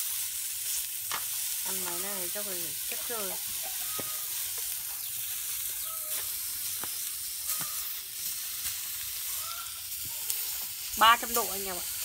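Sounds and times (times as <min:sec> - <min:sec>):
meat sizzling on hot plate: 0:00.0 - 0:12.0.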